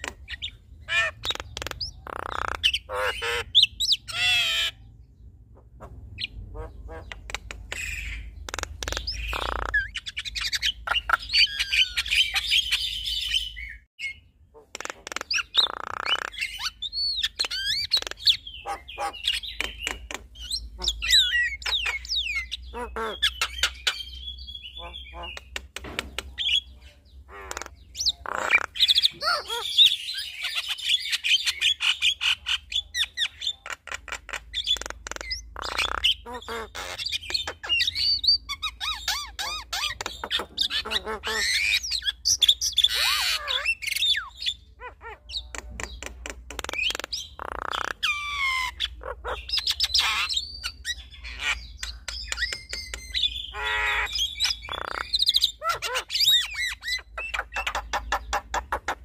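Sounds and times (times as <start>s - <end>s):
bird harsh squawking calls: 0.0s - 25.6s, 26.3s - 59.0s
birds clicking: 0.0s - 59.0s.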